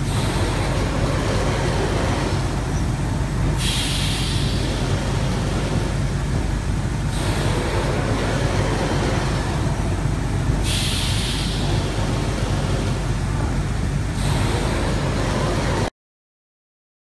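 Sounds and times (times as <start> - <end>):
mechanical hiss: 0.0 - 15.8
printing machine humming: 0.0 - 15.9.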